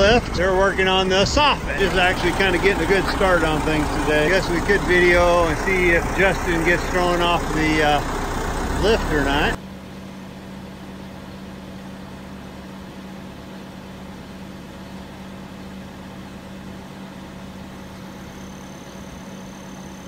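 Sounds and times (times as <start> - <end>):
engine idling with low hum: 0.0 - 20.0.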